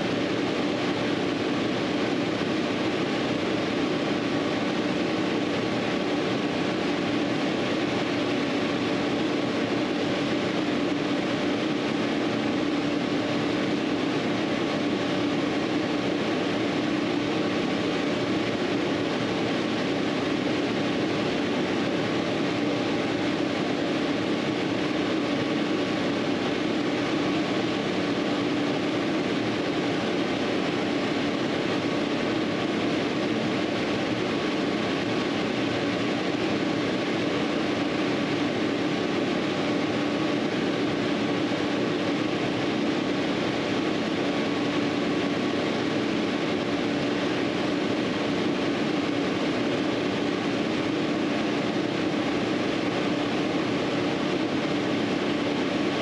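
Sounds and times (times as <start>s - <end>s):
machine running drone: 0.0s - 56.0s.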